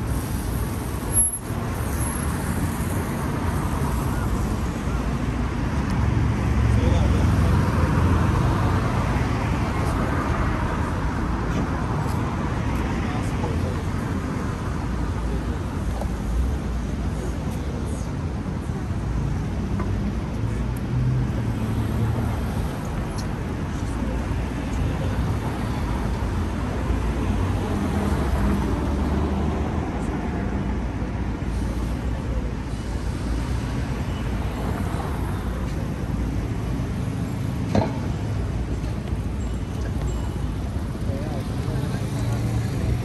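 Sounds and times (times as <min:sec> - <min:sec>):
street traffic rumble: 0:00.0 - 0:43.0.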